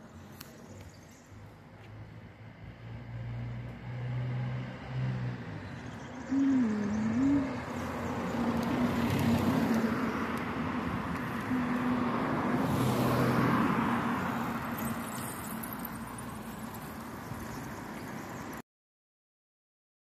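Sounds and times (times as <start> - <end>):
vehicle passing by: 1.8 - 18.6.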